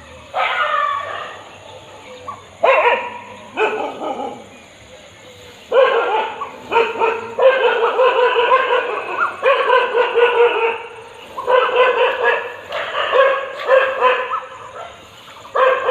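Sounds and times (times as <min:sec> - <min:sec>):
dog barking: 0:00.3 - 0:01.4, 0:02.3 - 0:04.5, 0:05.7 - 0:15.9.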